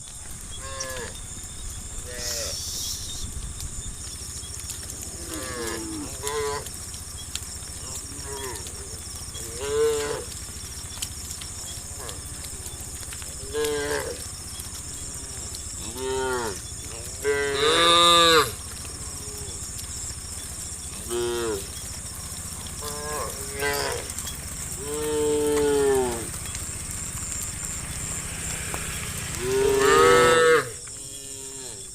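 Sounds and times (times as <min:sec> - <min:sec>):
steady high hiss: 0:00.0 - 0:30.9
cows mooing: 0:00.6 - 0:01.2, 0:02.0 - 0:02.7, 0:04.9 - 0:06.8, 0:07.7 - 0:19.8, 0:20.4 - 0:31.9.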